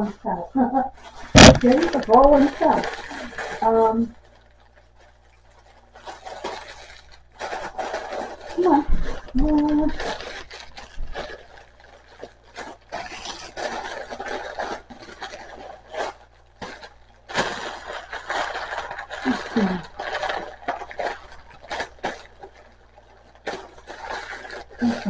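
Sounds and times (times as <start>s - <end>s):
packaging rustling and crinkling: 1.0s - 25.0s.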